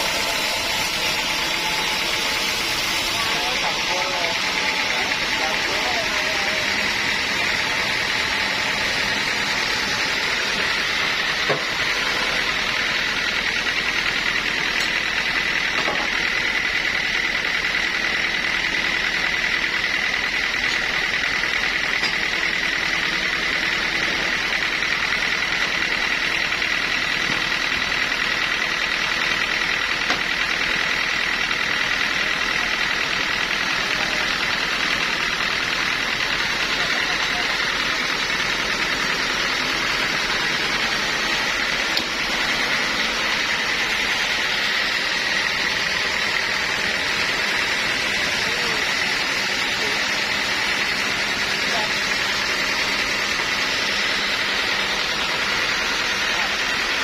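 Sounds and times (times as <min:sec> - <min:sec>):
sawmill machinery whining: 0:00.0 - 0:57.0.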